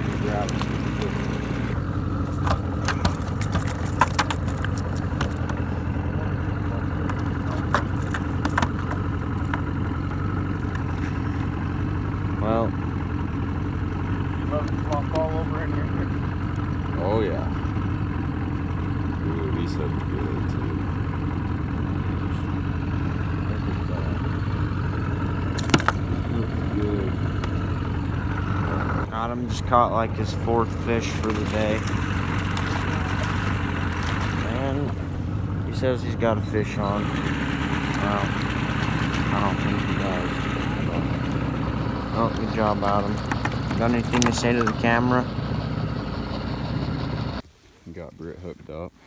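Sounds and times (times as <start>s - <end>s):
boat motor idling: 0.0s - 47.4s.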